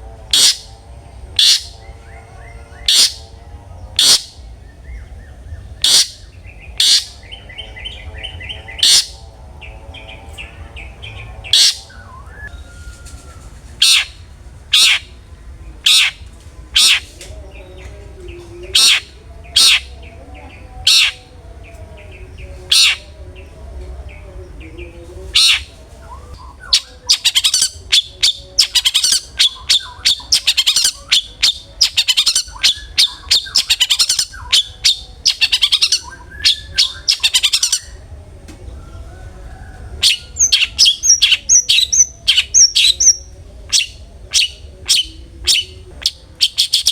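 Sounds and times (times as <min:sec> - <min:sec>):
shrike sharp calls: 0:00.0 - 0:04.7, 0:05.6 - 0:17.2, 0:18.7 - 0:20.2, 0:20.8 - 0:21.4, 0:22.7 - 0:23.1, 0:25.3 - 0:38.0, 0:40.0 - 0:46.9
low steady hum: 0:00.0 - 0:46.9
chattering bird notes: 0:00.2 - 0:12.2, 0:13.0 - 0:21.3, 0:25.2 - 0:38.0, 0:39.0 - 0:46.9.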